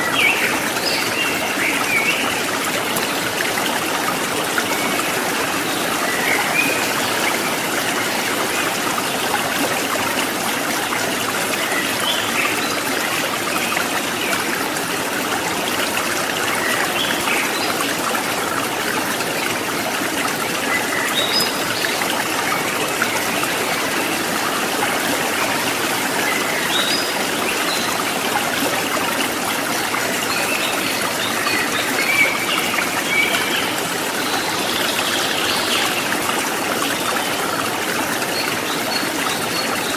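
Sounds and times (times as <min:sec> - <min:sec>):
babbling stream water: 0:00.0 - 0:39.9.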